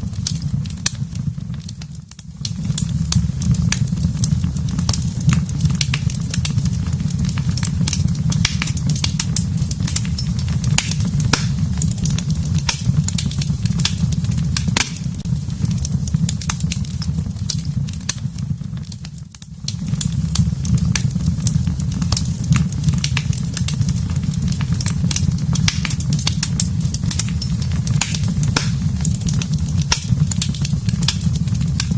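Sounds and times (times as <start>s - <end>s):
low rumble of flames: 0.0s - 31.9s
wood fire crackling and popping: 0.0s - 31.9s.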